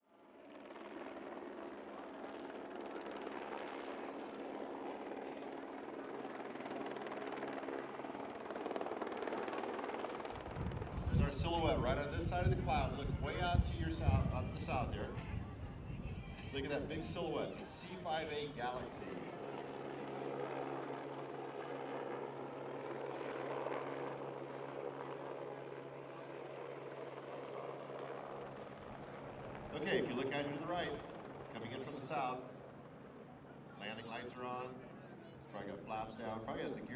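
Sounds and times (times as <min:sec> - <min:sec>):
helicopter rotor and turbine: 0:00.1 - 0:36.9.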